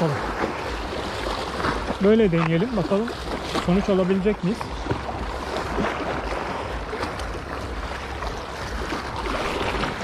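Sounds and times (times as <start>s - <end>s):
waves splashing against rocks: 0.0s - 10.0s.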